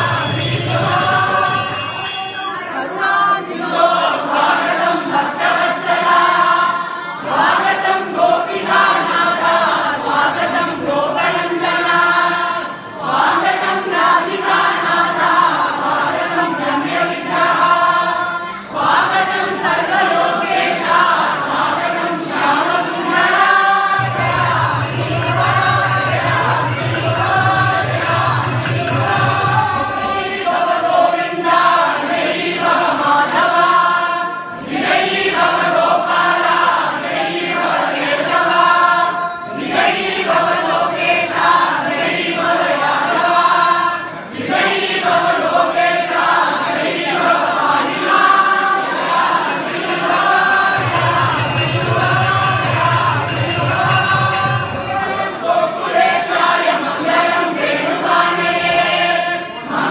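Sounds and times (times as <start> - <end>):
group chanting with music: 0.0 - 59.9.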